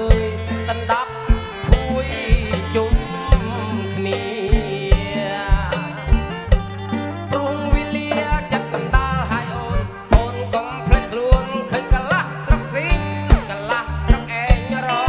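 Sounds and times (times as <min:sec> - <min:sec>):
man singing: 0:00.0 - 0:06.6, 0:07.3 - 0:15.0
bass and electric guitar: 0:00.0 - 0:15.0
drum kit beat: 0:00.0 - 0:15.0.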